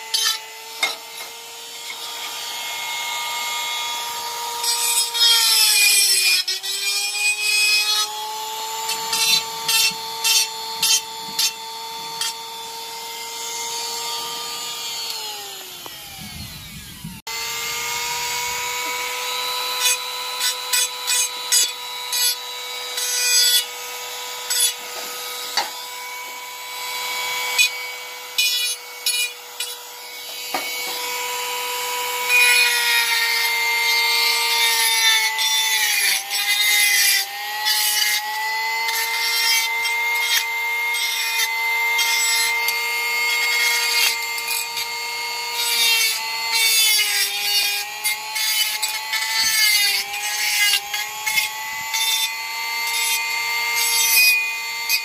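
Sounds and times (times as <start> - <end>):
rotary tool high whine: 0.0 - 55.0.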